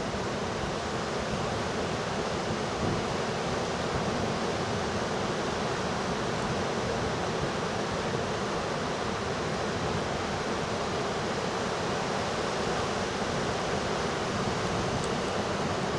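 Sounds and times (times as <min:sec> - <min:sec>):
wind: 0:00.0 - 0:15.9.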